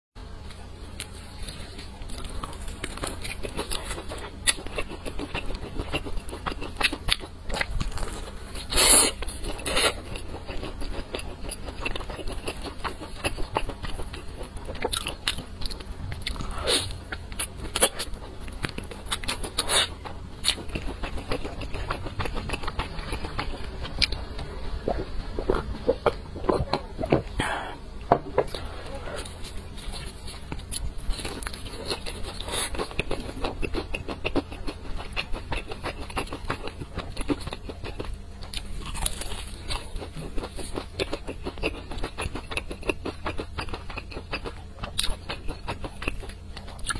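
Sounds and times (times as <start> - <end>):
chewing crunchy fried chicken: 0.4 - 27.7, 28.4 - 46.9.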